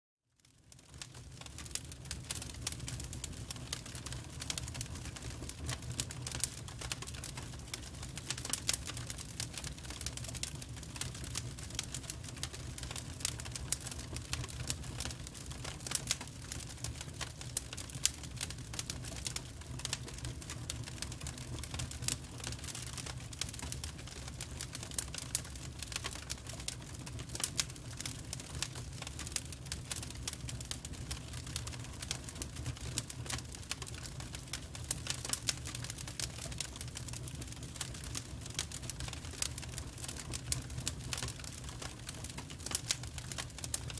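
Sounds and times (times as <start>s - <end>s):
wood fire crackling: 0.4s - 43.9s.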